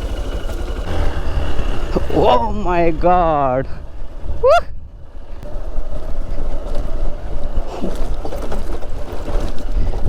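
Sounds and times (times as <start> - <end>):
motorcycle engine rumble: 0.0 - 10.0
wind buffeting microphone: 0.0 - 10.0.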